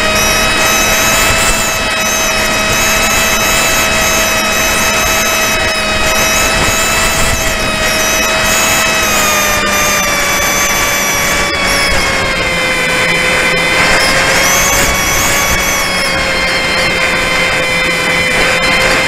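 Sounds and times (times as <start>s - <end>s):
model airplane motor whining: 0.0s - 19.0s
wind noise: 0.0s - 19.0s.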